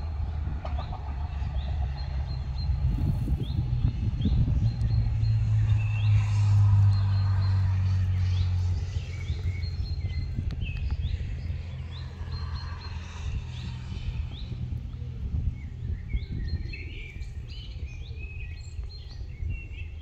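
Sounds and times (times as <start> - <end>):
electric train passing hum: 0.0 - 18.2
birds chirping: 0.0 - 20.0.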